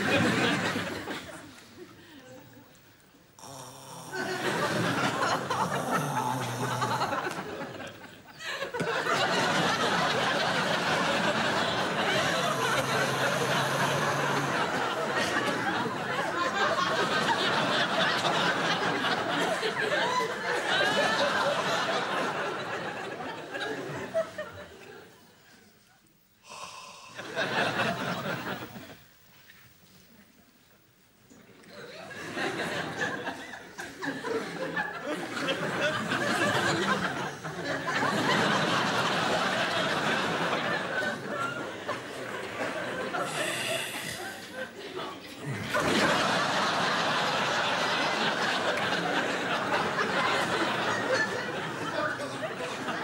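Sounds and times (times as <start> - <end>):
audience laughing: 0.0 - 2.6, 3.4 - 25.1, 26.5 - 29.0, 31.7 - 53.0.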